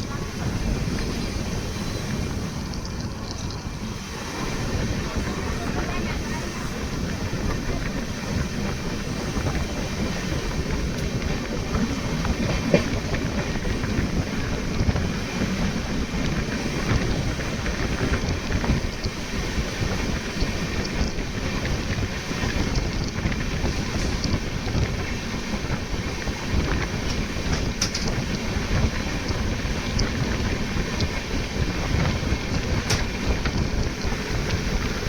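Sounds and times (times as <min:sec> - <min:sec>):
train coach rumbling on track: 0:00.0 - 0:35.0
wind buffeting microphone: 0:00.0 - 0:35.0.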